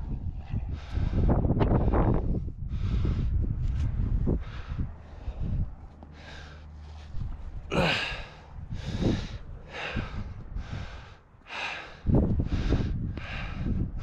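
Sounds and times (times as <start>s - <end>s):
person breathing hard: 0.2s - 14.0s.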